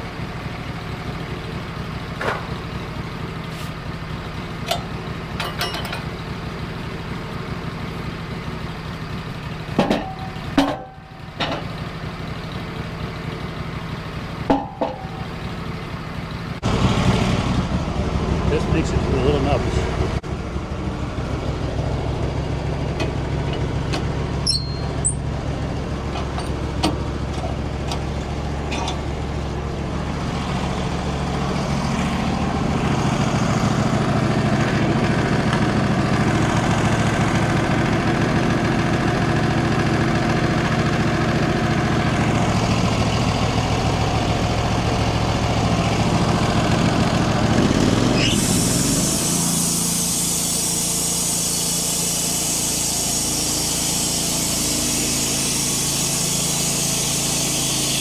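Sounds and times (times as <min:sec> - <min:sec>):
band sawmill cutting wood: 0:00.0 - 0:58.0.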